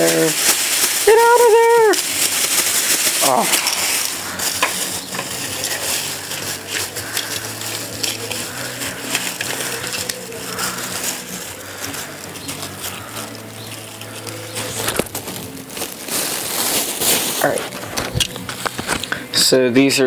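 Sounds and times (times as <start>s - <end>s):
plastic bag rustling: 0.0s - 19.5s.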